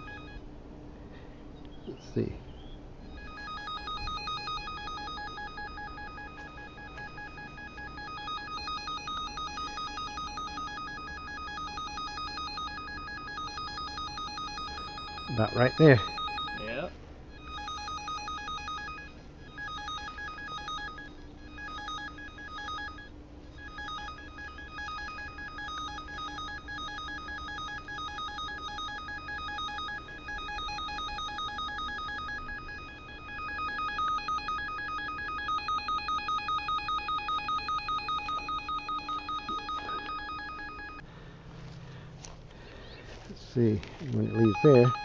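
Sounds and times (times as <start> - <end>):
electronic locator tone: 0.0 - 0.5, 2.5 - 41.0, 43.6 - 45.0.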